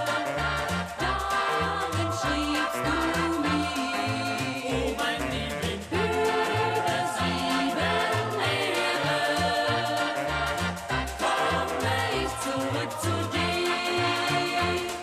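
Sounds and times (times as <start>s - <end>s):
song with singing over bass: 0.0s - 15.0s.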